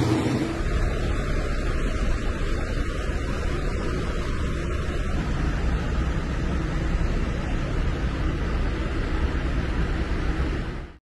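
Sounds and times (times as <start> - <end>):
heavy truck rumbling past: 0.0 - 10.8.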